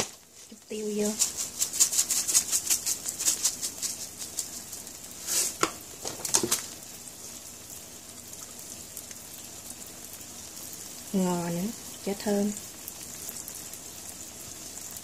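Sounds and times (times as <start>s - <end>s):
eggs sizzling in a pan: 0.0s - 15.0s.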